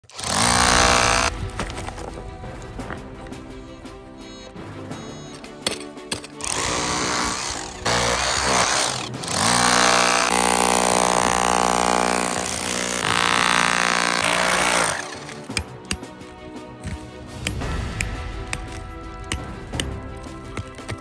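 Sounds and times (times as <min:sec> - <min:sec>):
rotary hammer chiselling rock: 0:00.0 - 0:01.7, 0:05.1 - 0:21.0.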